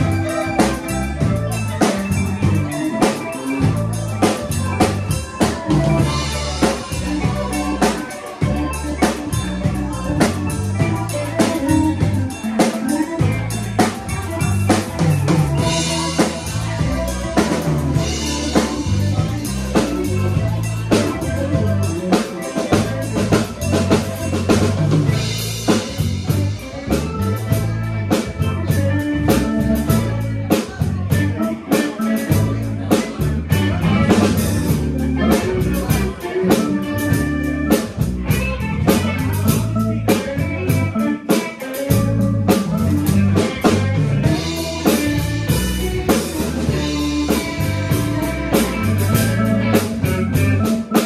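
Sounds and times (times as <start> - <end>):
drum kit: 0.0 - 51.0
live band playing blues groove: 0.0 - 51.0
walking electric bass line: 0.0 - 51.0.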